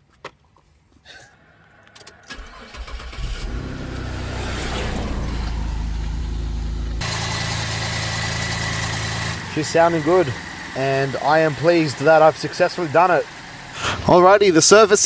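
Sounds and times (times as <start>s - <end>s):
car engine cranking and idling: 1.9s - 15.0s.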